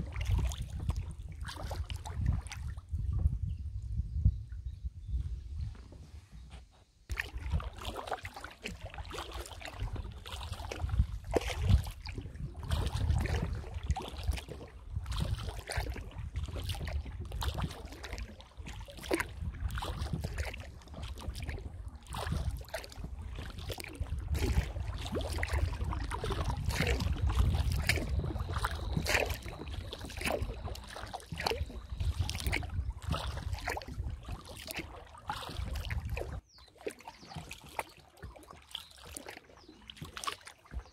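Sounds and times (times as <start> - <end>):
paddle splashing and dripping water: 0.0 - 3.4, 5.8 - 40.9.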